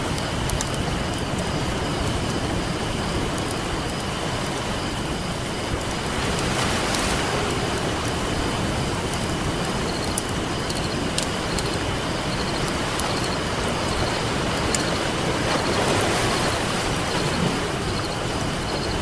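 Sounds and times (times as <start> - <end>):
campfire crackling: 0.0 - 19.0
ocean waves on a beach: 0.0 - 19.0.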